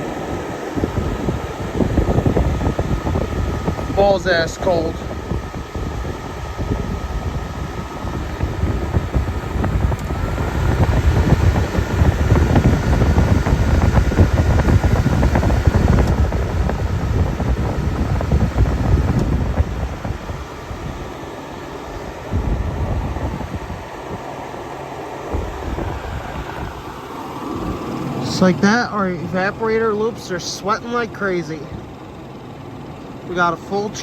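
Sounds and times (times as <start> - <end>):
air conditioner fan rushing: 0.0 - 34.0.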